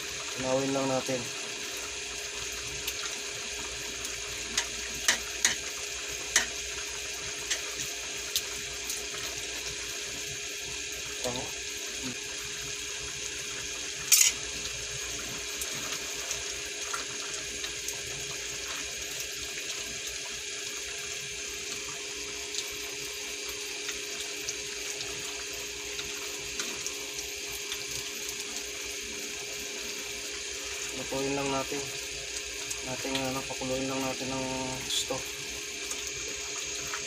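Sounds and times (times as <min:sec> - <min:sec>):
sauce simmering hiss: 0:00.0 - 0:37.0.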